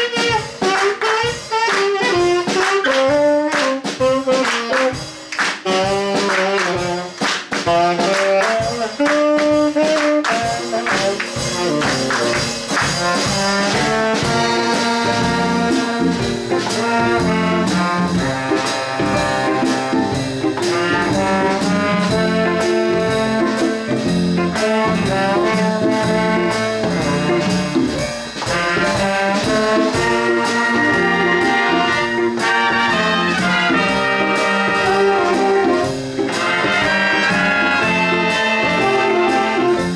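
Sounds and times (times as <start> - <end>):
saxophones: 0.0 - 23.9, 24.5 - 39.9
big band playing: 0.0 - 39.9
trumpets and trombones: 0.0 - 39.9.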